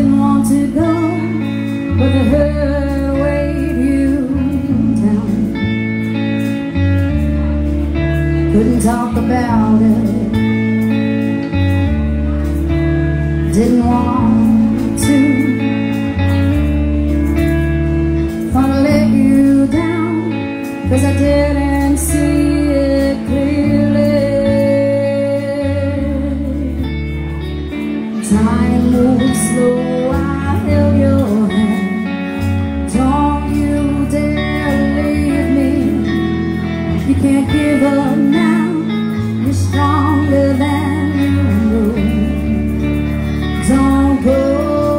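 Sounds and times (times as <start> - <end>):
bass guitar: 0.0 - 44.9
electric guitar: 0.0 - 44.9
woman singing lead: 0.0 - 44.9.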